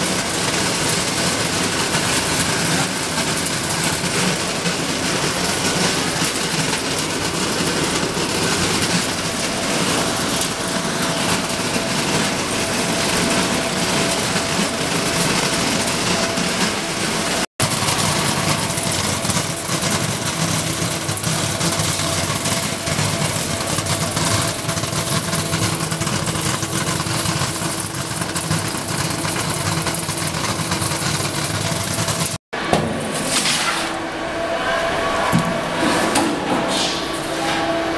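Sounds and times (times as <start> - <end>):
plastic flakes rattling down chute: 0.0 - 32.4.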